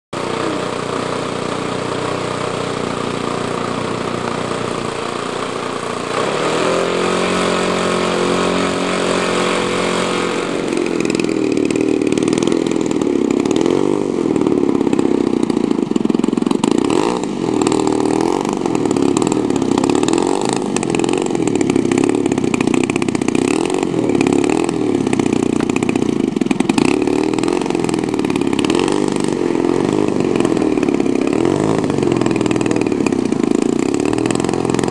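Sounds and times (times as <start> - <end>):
model plane engine running: 0.2 - 34.9.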